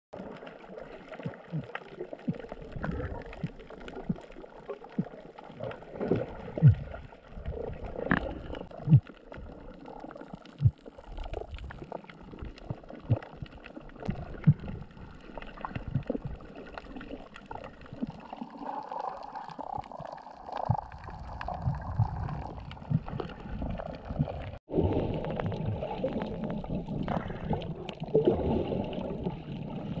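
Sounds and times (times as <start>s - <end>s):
muffled underwater sloshing: 0.2s - 30.0s.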